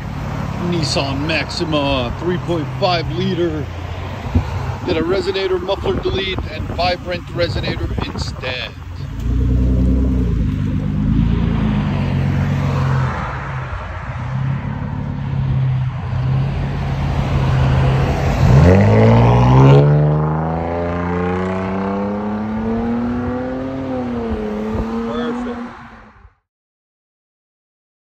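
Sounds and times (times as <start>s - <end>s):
car engine accelerating hard: 0.0s - 26.2s.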